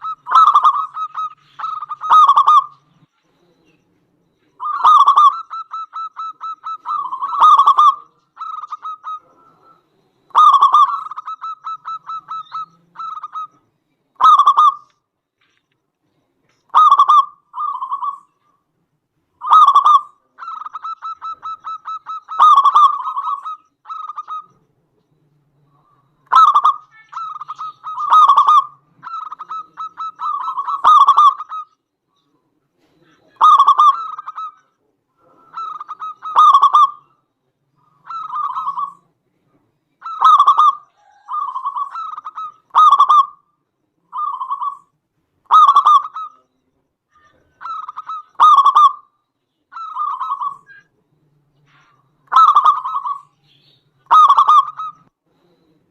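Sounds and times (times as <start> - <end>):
dove cooing: 0.0 - 14.9, 16.7 - 18.6, 19.4 - 49.1, 49.7 - 55.9.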